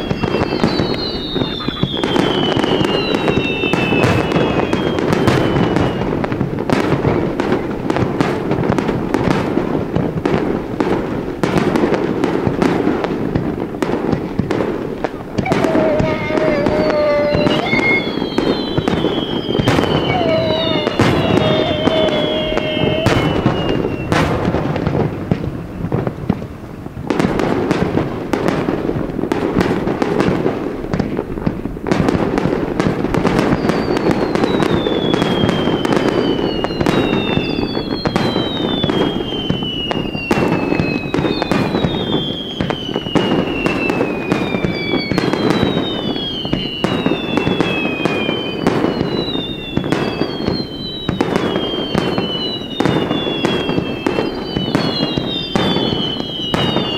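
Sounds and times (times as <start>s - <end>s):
fireworks bangs and booms: 0.0s - 56.9s
whistling fireworks: 0.0s - 56.9s.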